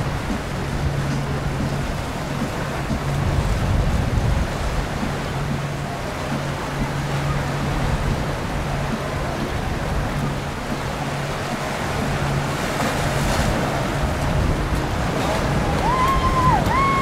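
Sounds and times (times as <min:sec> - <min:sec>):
low engine hum: 0:00.0 - 0:17.0
wind and water rushing: 0:00.0 - 0:17.0.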